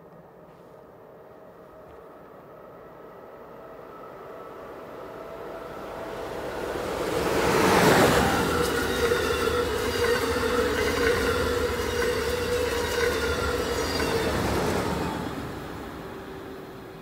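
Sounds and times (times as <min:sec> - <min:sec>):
train passing at speed: 0:00.0 - 0:17.0
wheels rumbling on rail: 0:00.0 - 0:17.0.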